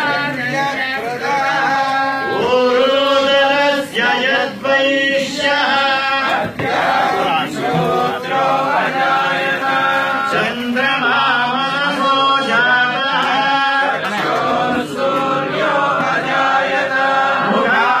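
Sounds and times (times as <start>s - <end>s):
men chanting a hymn: 0.0s - 18.0s.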